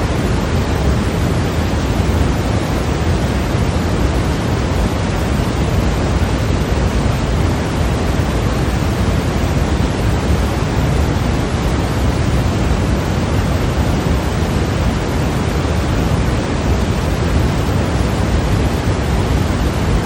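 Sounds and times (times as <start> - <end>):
steady white noise hiss: 0.0 - 20.0.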